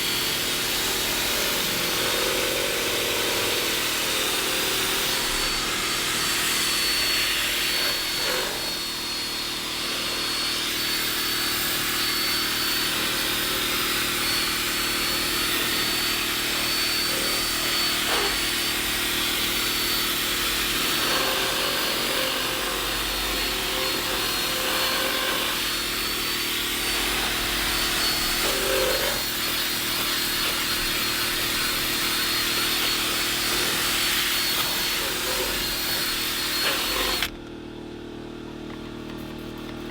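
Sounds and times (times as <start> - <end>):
power tool motor whining: 0.0 - 37.4.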